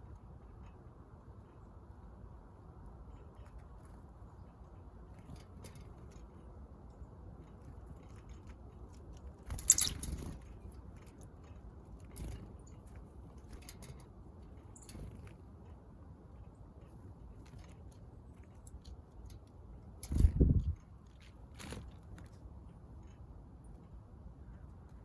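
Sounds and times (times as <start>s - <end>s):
birds pecking at seed: 0.0s - 25.0s
low background noise: 0.0s - 25.0s.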